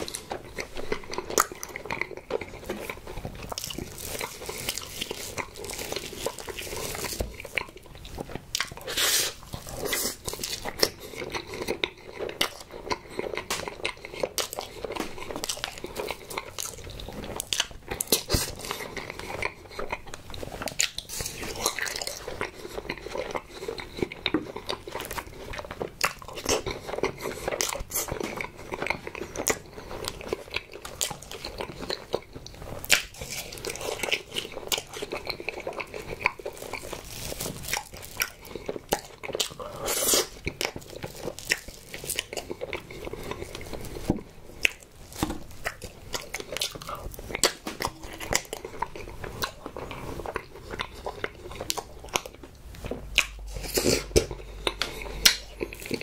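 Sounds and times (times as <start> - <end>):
food crunching: 0.0 - 56.0
person chewing wetly: 0.0 - 56.0.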